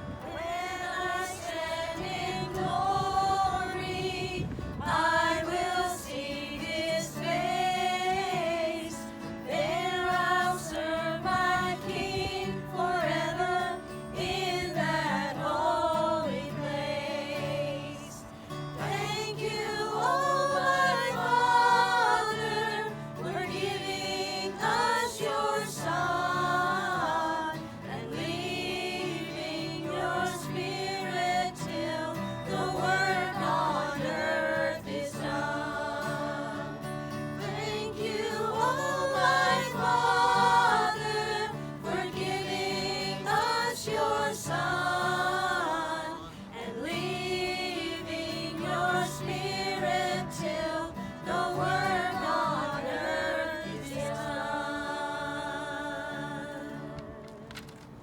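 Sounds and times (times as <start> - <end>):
voices singing a hymn: 0.0 - 58.0.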